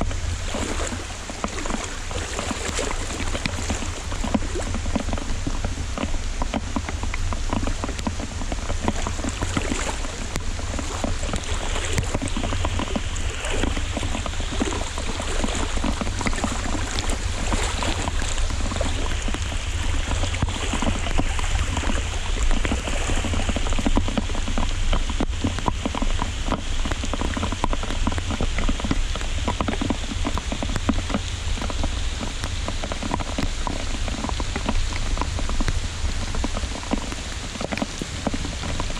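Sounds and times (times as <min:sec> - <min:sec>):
heavy rain patter: 0:00.0 - 0:38.9.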